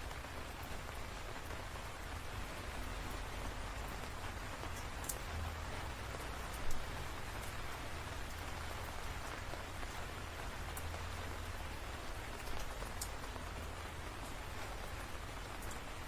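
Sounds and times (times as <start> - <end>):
raindrops ticking: 0.0 - 16.0
steady rain falling: 0.0 - 16.0.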